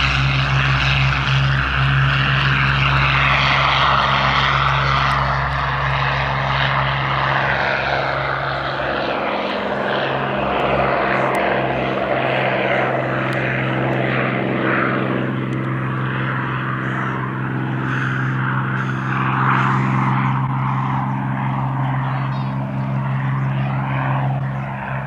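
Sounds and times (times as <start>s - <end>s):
propeller plane engine drone: 0.0s - 25.0s.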